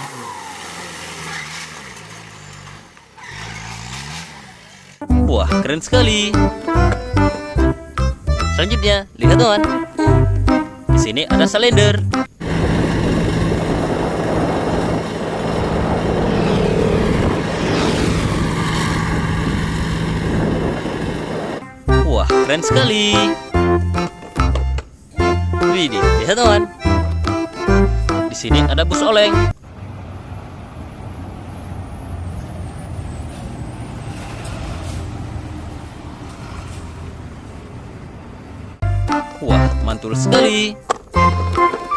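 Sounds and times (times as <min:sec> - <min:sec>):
road roller engine droning: 0:00.0 - 0:11.1, 0:12.0 - 0:41.9.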